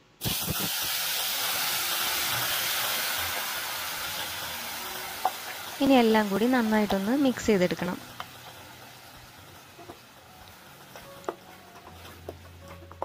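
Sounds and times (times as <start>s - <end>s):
paste sizzling in hot oil: 0.2s - 13.0s.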